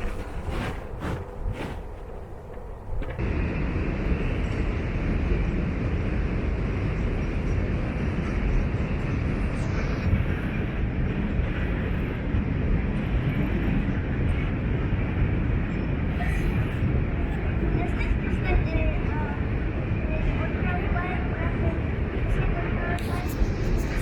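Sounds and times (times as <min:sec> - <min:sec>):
wind noise on microphone: 0:00.0 - 0:24.0.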